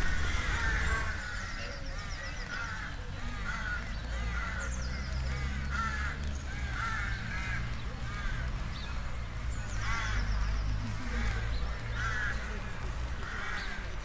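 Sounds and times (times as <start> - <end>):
crows cawing: 0.0 - 8.8, 9.6 - 14.0.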